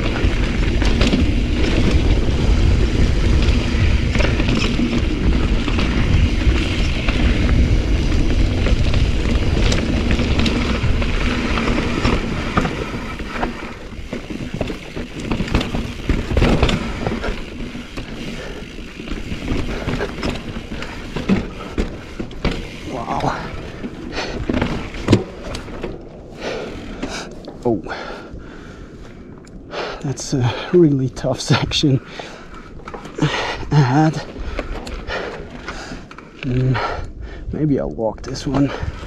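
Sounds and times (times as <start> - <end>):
wind rumble on microphone: 0.0 - 29.9, 34.2 - 39.0
bike rattling over stones: 0.0 - 37.0, 37.7 - 39.0.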